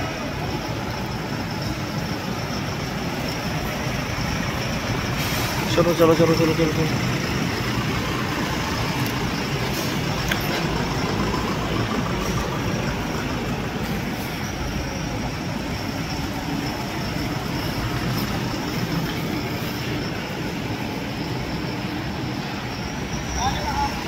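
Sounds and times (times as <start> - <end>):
diesel truck engines passing: 0.0 - 24.0.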